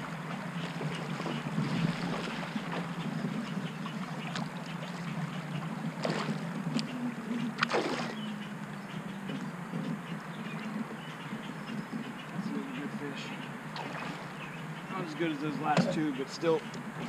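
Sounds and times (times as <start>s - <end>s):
water rushing along hull: 0.0s - 17.0s.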